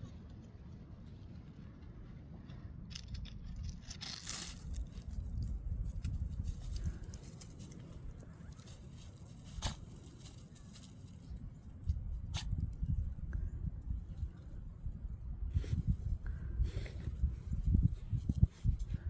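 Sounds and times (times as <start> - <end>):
wind rumbling on microphone: 0.0 - 19.0
wind-blown trees rustling: 0.0 - 19.0.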